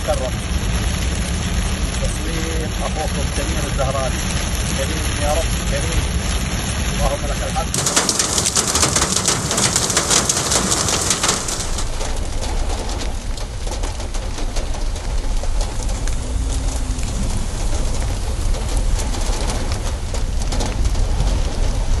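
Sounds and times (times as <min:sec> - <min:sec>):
water runoff running: 0:00.0 - 0:20.5
deep low rumble: 0:00.0 - 0:22.0
heavy rain hissing: 0:00.0 - 0:22.0.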